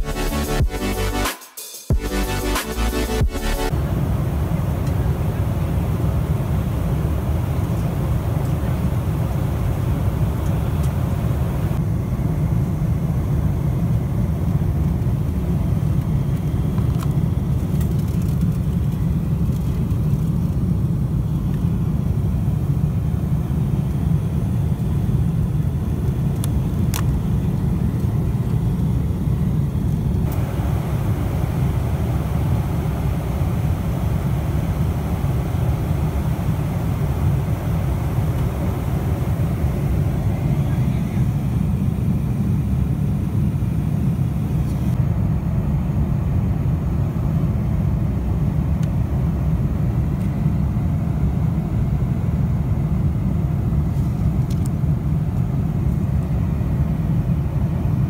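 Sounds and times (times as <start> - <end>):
airplane cabin engine rumble: 1.9 - 58.0.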